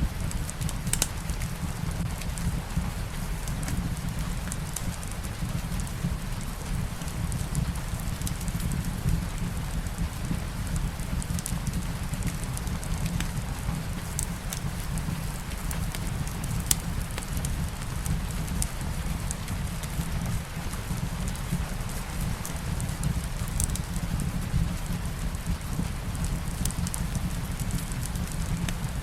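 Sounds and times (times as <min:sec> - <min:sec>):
steady rain: 0:00.0 - 0:29.0
wood fire crackling and popping: 0:00.0 - 0:29.0.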